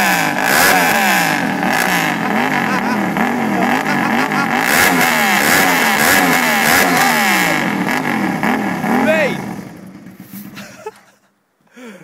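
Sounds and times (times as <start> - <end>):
loud raspy motorcycle engine revving: 0.0 - 10.8.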